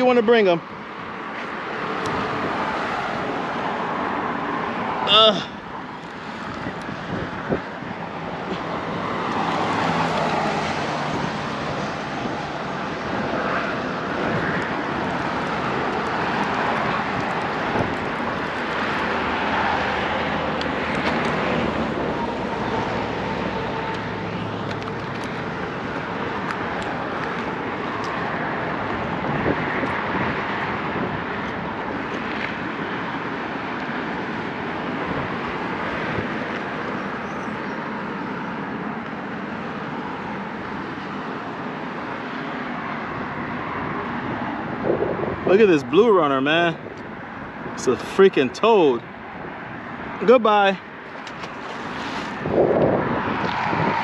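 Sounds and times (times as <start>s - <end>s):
vehicle noise: 0.0s - 54.0s
wind: 0.0s - 54.0s.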